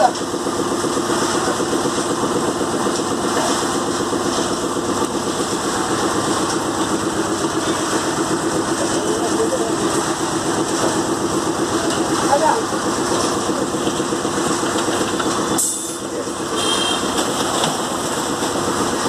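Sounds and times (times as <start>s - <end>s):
piling machine engine pulsing: 0.0s - 19.0s.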